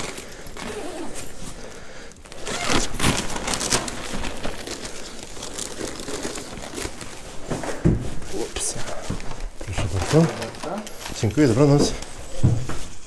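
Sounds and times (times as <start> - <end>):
paper bags rustling: 0.0 - 13.0.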